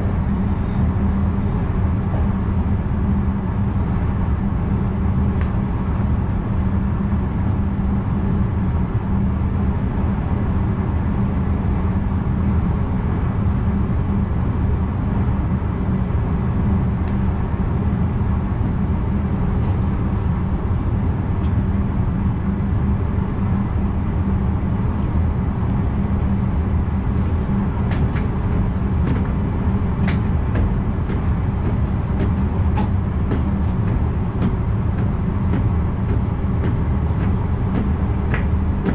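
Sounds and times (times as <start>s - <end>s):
electric train deep rumble: 0.0s - 38.9s.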